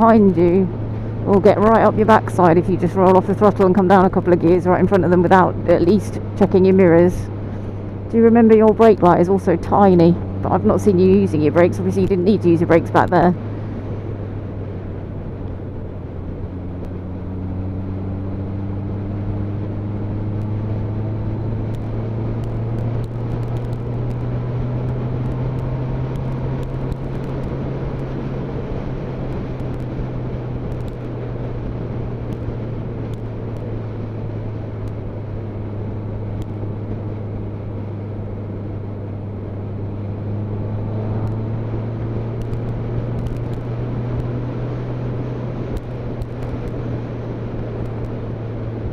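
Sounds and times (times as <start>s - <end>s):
motorcycle engine running: 0.0s - 48.9s
wind and road noise: 0.0s - 48.9s.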